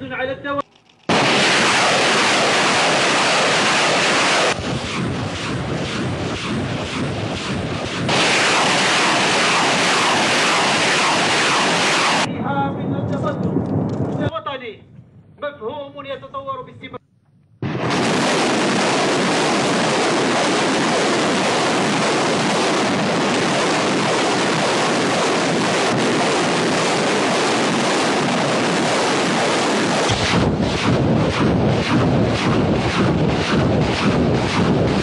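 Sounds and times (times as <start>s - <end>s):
rocket motors roaring: 0.6s - 12.3s, 17.2s - 35.0s.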